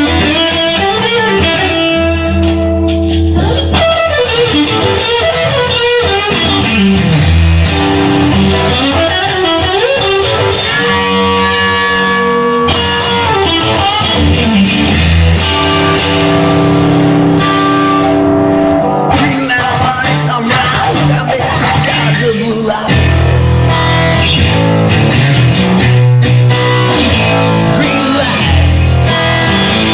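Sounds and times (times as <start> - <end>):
guitars over steady bass: 0.0 - 29.9.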